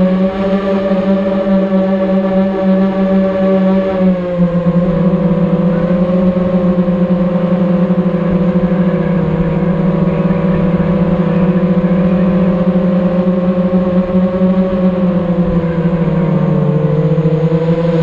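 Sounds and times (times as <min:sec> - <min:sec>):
drone propellers humming: 0:00.0 - 0:18.0.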